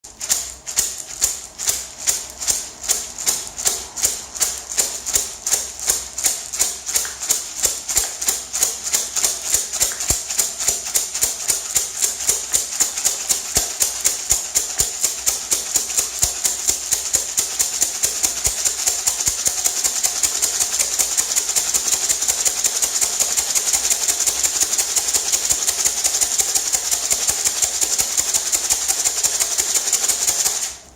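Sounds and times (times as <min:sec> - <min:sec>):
maraca rattling: 0:00.1 - 0:30.9.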